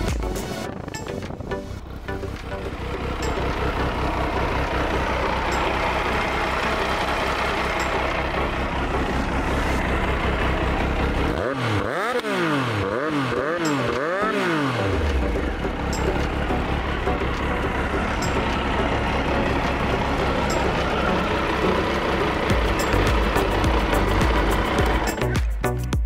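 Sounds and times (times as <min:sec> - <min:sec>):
engine throttle blips: 0:00.0 - 0:26.0
motorcycle engine idling: 0:00.0 - 0:26.0.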